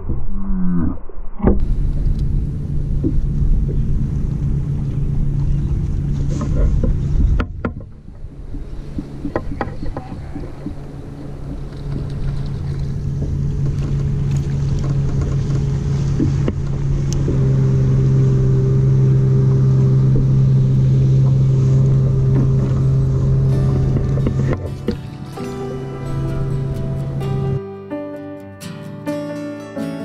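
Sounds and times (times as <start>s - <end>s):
wind noise: 0.0s - 27.6s
water noise: 0.0s - 27.7s
boat motor humming: 1.6s - 27.7s.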